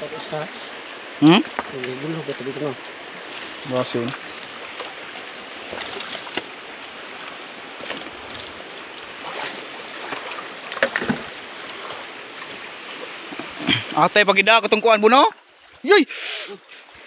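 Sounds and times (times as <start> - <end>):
creek water running over rocks: 0.0 - 17.0.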